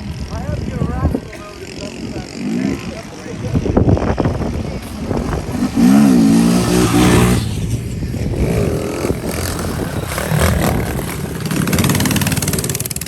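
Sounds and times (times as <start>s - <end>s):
mini bike engine revving: 0.0s - 13.0s.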